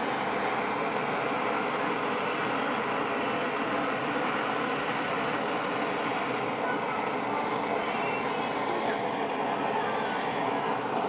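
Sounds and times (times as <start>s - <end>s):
blowtorch hissing: 0.0s - 11.0s.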